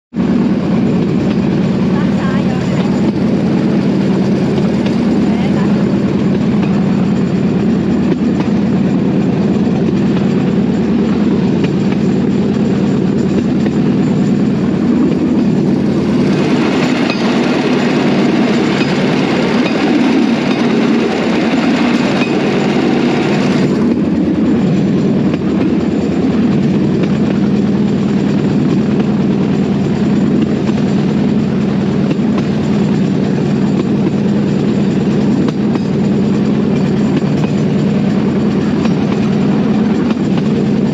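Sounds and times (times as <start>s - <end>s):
platform rattling over track: 0.1s - 40.9s.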